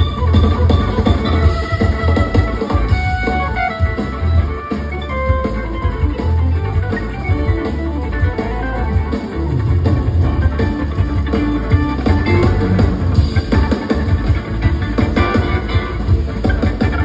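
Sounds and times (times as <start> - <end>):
electric guitar solo: 0.0 - 17.0
live band playing: 0.0 - 17.0.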